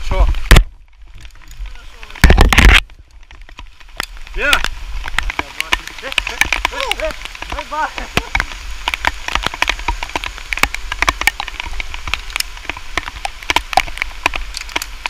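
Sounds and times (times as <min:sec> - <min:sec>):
raindrops tapping on surface: 0:00.0 - 0:15.0.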